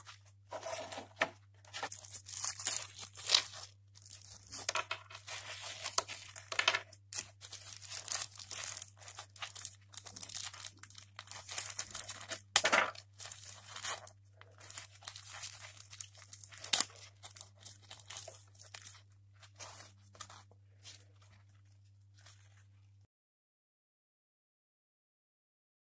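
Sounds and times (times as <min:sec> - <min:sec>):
packaging wrap crinkling: 0:00.0 - 0:22.9.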